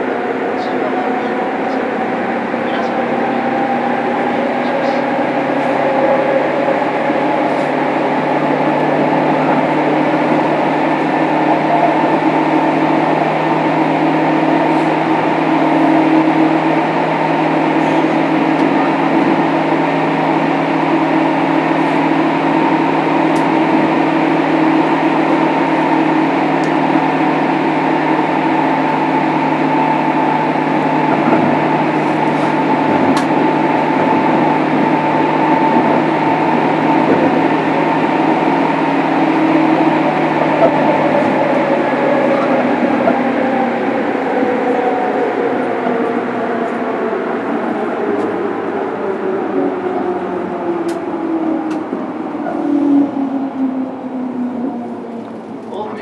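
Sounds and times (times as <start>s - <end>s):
steady humming tones: 0.0s - 56.0s
train running drone: 0.0s - 56.0s.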